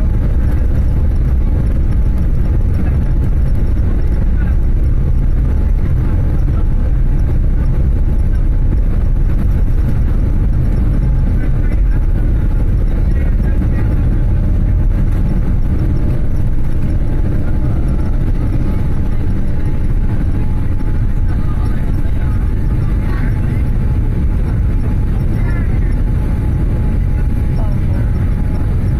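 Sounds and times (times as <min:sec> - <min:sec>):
jet engines rumbling: 0:00.0 - 0:28.9
wheels running over runway: 0:00.0 - 0:28.9.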